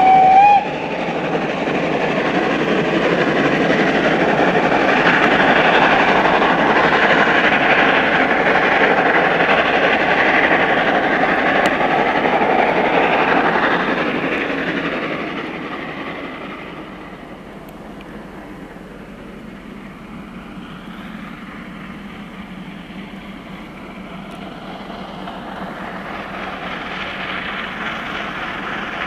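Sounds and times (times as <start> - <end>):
steam locomotive exhaust: 0.0 - 29.0
train running noise: 0.0 - 29.0.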